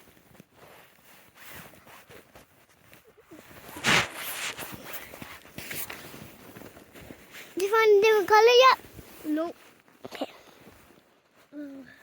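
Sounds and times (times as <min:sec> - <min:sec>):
snow and ice crunching and scraping: 0:00.0 - 0:12.0.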